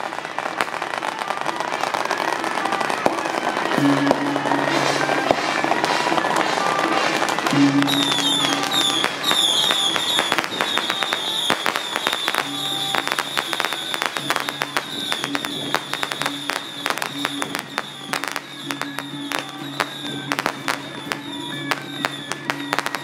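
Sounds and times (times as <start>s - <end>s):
firecrackers cracking: 0.0s - 23.0s
high-pitched whistle: 3.4s - 23.0s.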